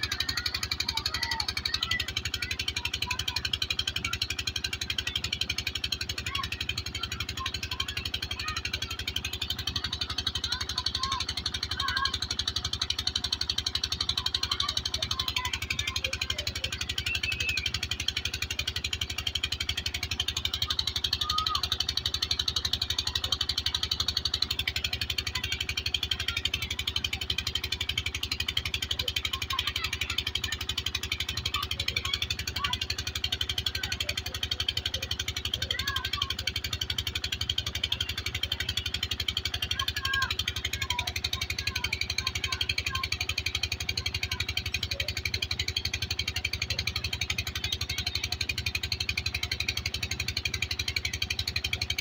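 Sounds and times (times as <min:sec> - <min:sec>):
water pump engine running: 0:00.0 - 0:52.0.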